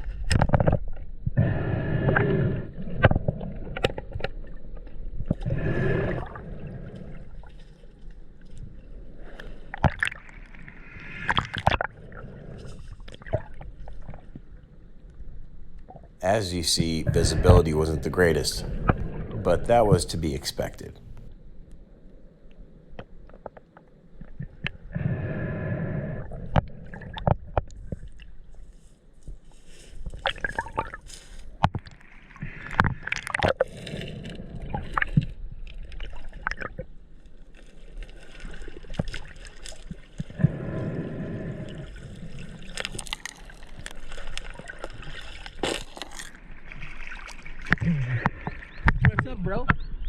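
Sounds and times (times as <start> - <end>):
water gurgling and sloshing: 0.0 - 20.0, 21.0 - 50.0.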